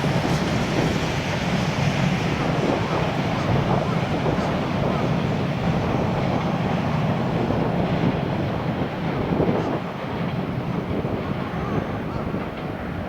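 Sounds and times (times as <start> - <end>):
electric train rumbling over bridge: 0.0 - 13.0
wind buffeting microphone: 0.0 - 13.0.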